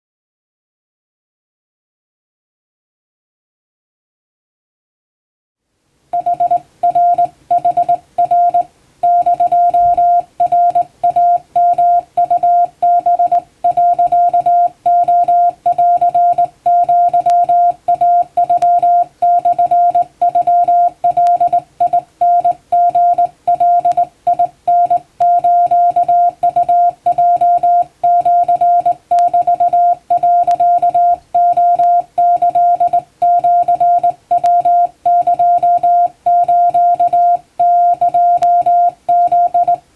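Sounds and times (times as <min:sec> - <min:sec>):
morse code beeps: 0:06.2 - 0:39.8.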